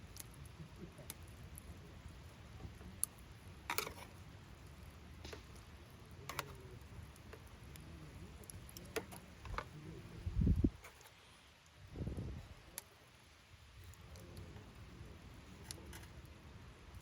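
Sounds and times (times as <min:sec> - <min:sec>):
campfire wood crackling: 0:00.0 - 0:17.0.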